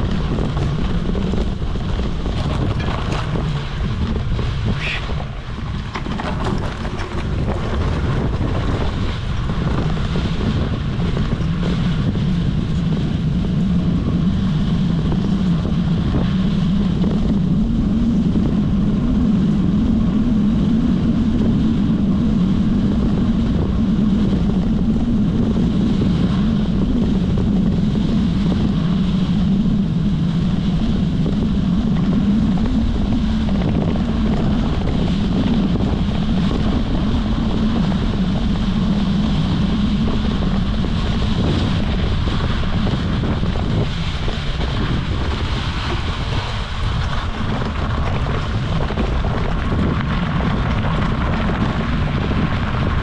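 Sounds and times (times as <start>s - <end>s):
bike tyres rolling on sandy dirt: 0.0s - 53.0s
wind buffeting microphone: 0.0s - 53.0s.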